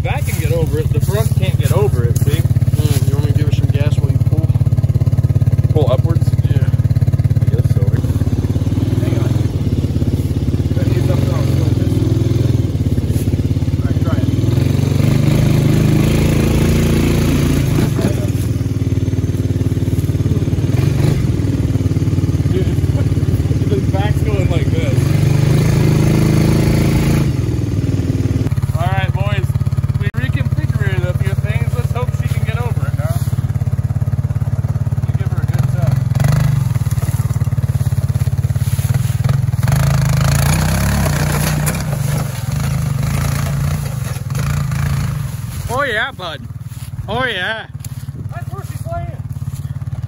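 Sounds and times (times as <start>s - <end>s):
utility vehicle engine under load: 0.0s - 50.0s.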